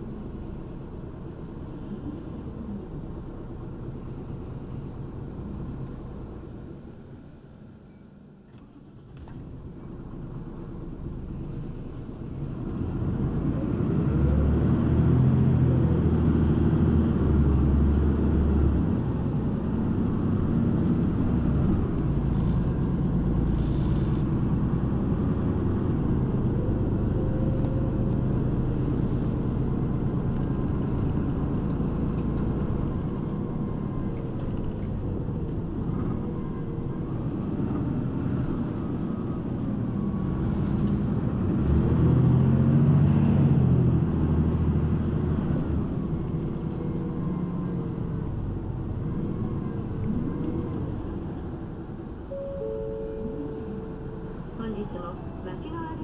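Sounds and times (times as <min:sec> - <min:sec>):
bus engine: 0:00.0 - 0:56.0
road rumble: 0:00.0 - 0:56.0.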